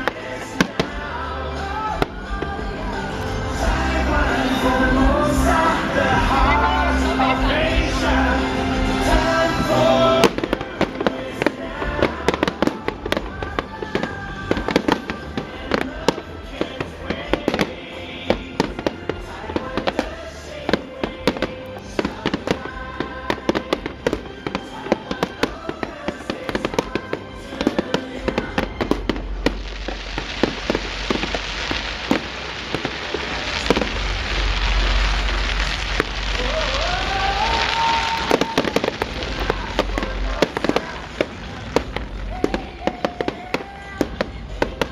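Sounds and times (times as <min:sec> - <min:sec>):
fireworks bangs and pops: 0:00.0 - 0:44.9
fireworks crackling hiss: 0:00.0 - 0:44.9
music playing: 0:00.0 - 0:44.9.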